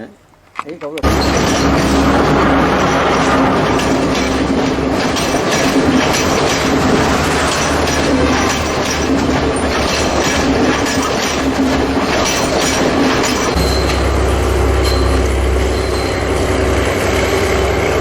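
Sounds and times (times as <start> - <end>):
train clattering on rails: 0.8 - 18.0
deep engine drone: 1.0 - 18.0.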